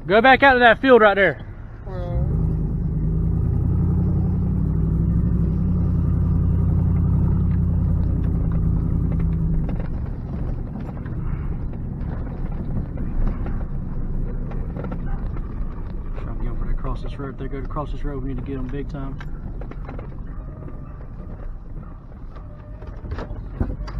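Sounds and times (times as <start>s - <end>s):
truck engine drone: 0.0s - 23.9s
knocks and rattles: 3.4s - 23.9s.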